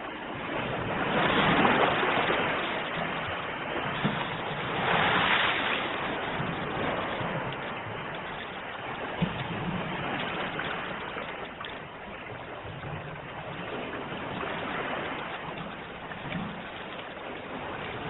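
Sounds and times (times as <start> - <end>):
sea waves washing on shore: 0.0 - 18.0.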